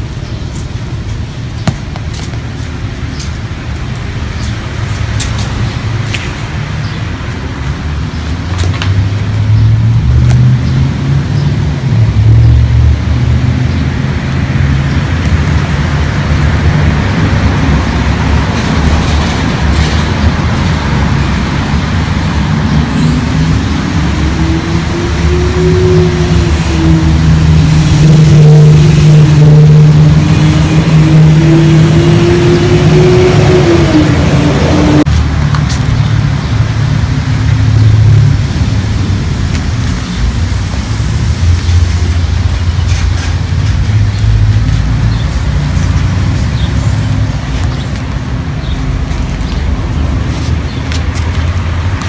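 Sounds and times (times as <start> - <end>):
vehicle engine rumbling: 0.0 - 52.0.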